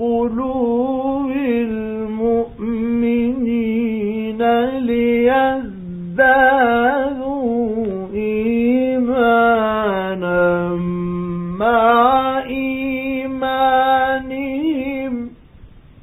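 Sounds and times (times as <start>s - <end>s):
man chanting: 0.0s - 15.4s
faint hiss: 0.0s - 16.0s.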